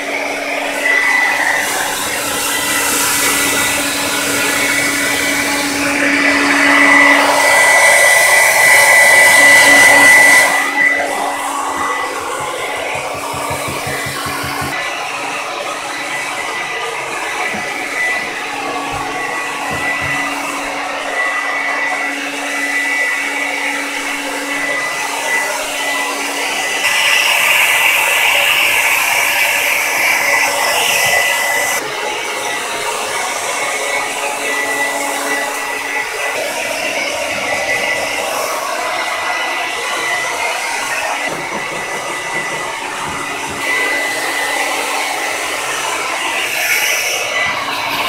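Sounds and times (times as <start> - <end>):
hair dryer blowing: 0.0 - 48.0.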